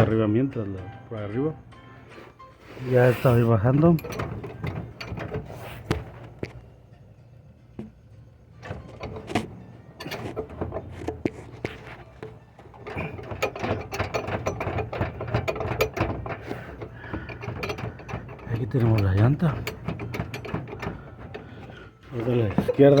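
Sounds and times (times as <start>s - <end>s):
hoist crank clicking and rattling: 2.8s - 6.8s, 7.8s - 23.0s.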